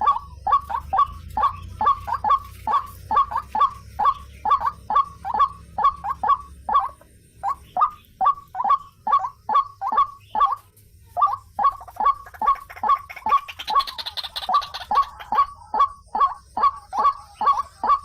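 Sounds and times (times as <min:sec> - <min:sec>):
waterhen calling harsh notes: 0:00.0 - 0:18.0.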